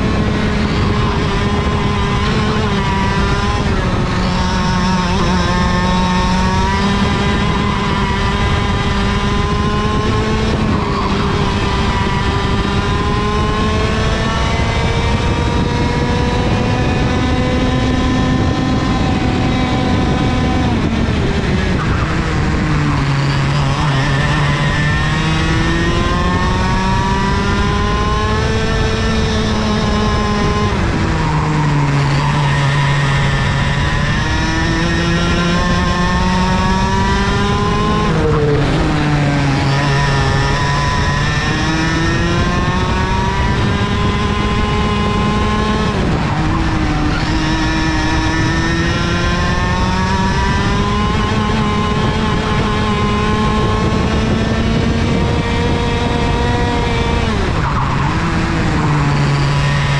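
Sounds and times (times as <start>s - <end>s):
kart engine at full throttle: 0.0s - 59.9s
wind rush: 0.0s - 59.9s.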